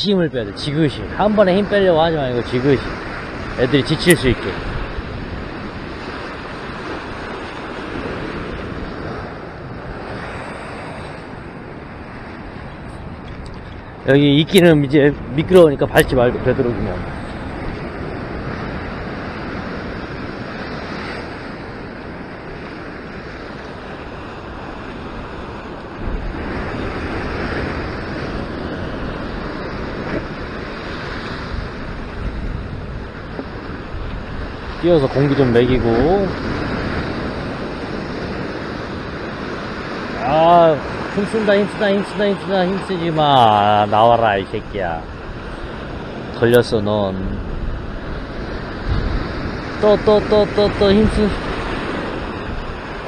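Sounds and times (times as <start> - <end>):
ocean surf breaking on rocks: 0.0 - 53.0
wind buffeting microphone: 0.0 - 53.0.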